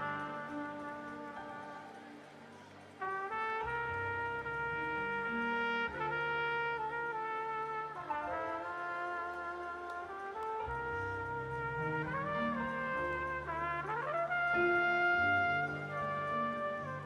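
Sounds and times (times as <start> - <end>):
low sustained accompaniment: 0.0 - 17.0
trumpet playing long held notes: 0.0 - 17.0.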